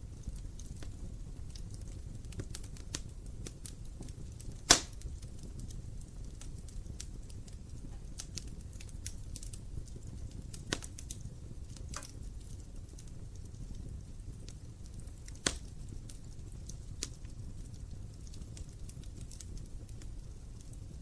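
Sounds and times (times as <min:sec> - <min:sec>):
fire flames rumbling: 0:00.0 - 0:21.0
logs crackling and popping: 0:00.0 - 0:21.0.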